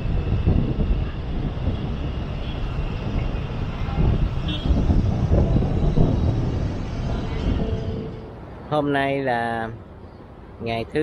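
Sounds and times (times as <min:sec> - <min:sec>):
rumbling traffic noise: 0:00.0 - 0:11.0.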